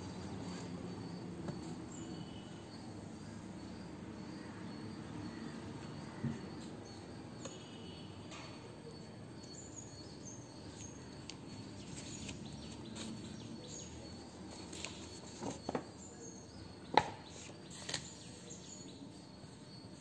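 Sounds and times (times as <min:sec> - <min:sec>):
faint bird chirps: 0:00.5 - 0:20.0.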